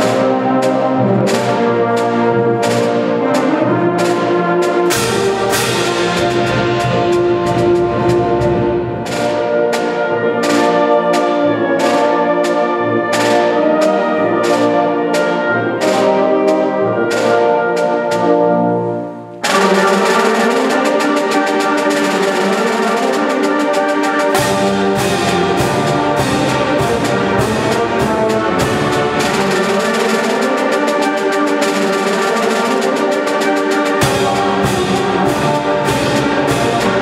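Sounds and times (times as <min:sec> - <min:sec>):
live brass ensemble music: 0:00.0 - 0:37.0.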